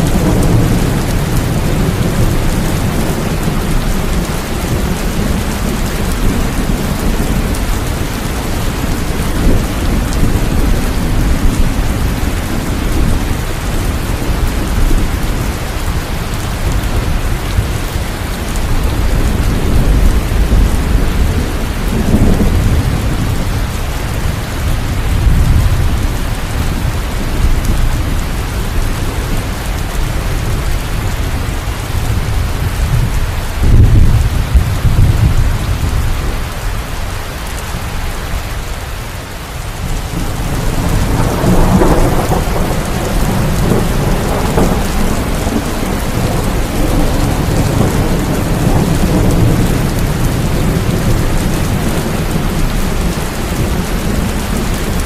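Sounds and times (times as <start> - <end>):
rolling thunder rumbling: 0.0 - 36.7, 39.7 - 55.0
heavy rain: 0.0 - 55.0.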